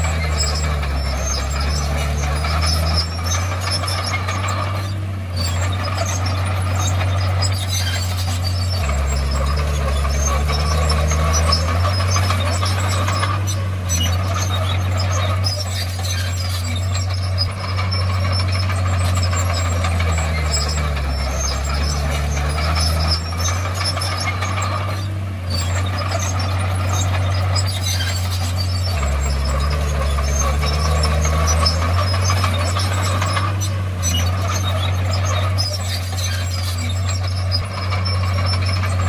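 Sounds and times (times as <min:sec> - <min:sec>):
bulldozer diesel engine under load: 0:00.0 - 0:39.0
metallic squeal and rattle: 0:00.0 - 0:39.0.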